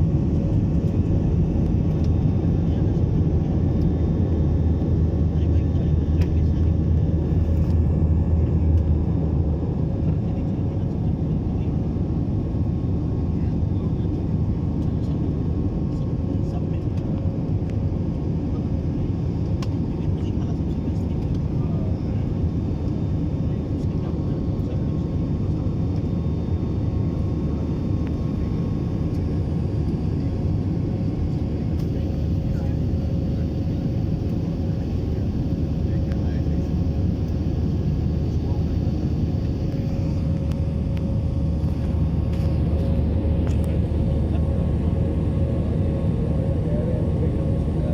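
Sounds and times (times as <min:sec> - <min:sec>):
aeroplane engines droning: 0:00.0 - 0:47.9.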